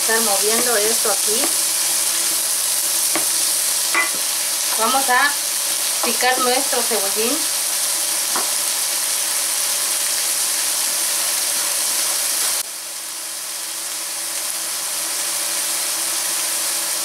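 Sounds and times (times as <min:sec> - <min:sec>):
asparagus sizzling in a pan: 0:00.0 - 0:17.0.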